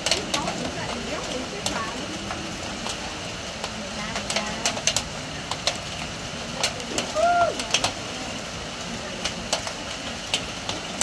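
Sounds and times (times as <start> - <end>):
heavy rain on metal roof: 0.0 - 11.0.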